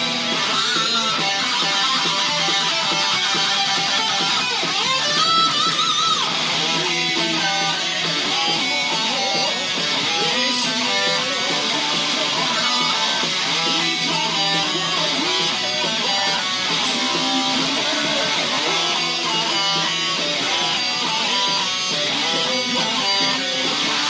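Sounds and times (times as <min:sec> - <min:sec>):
electric guitar: 0:00.0 - 0:24.0
heavy metal band playing: 0:00.0 - 0:24.0.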